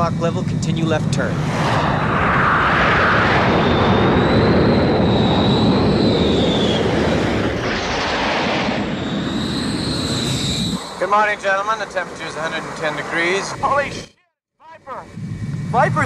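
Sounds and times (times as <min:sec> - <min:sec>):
jet engines rushing: 0:00.0 - 0:14.1, 0:14.8 - 0:16.0
high whine: 0:00.0 - 0:16.0.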